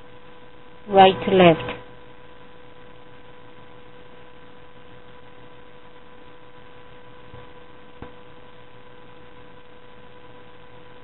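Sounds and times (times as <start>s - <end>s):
constant hiss: 0.0s - 11.0s
electrical hum: 0.0s - 11.0s.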